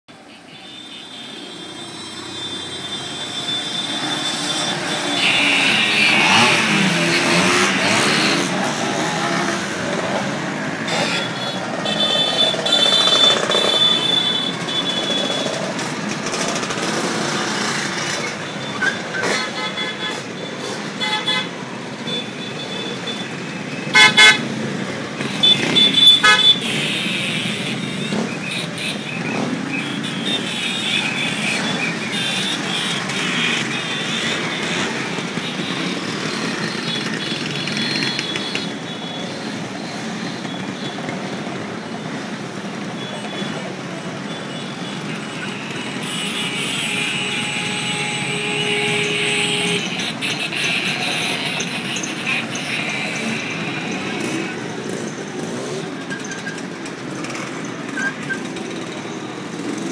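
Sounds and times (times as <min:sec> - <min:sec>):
scooter engines passing: 0:00.2 - 0:59.9.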